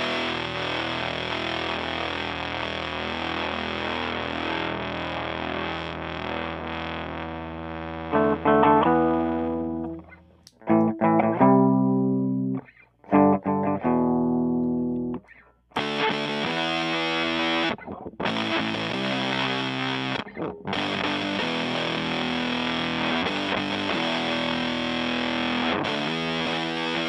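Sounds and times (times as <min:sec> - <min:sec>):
fuzz electric guitar chords: 0:00.0 - 0:27.0.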